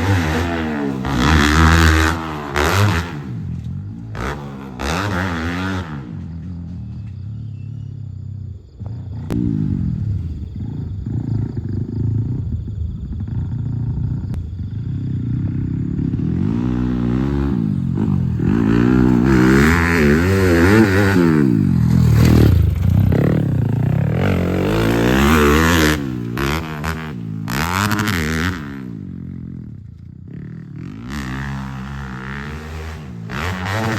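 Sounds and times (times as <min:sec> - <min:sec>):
dirt bike engine revving: 0:00.0 - 0:08.0, 0:08.8 - 0:33.9.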